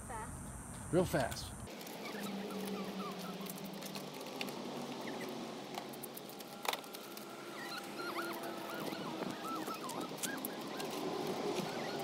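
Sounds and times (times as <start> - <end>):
footsteps on loose gravel: 1.2 - 12.0.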